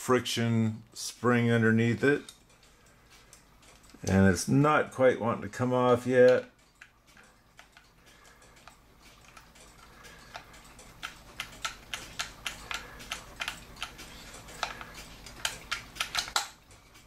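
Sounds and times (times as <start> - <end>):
clock gear clicking: 0.3 - 17.0.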